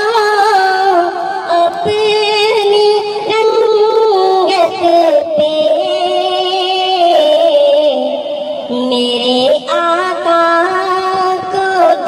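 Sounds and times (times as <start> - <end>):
person singing devotional song: 0.0 - 12.0.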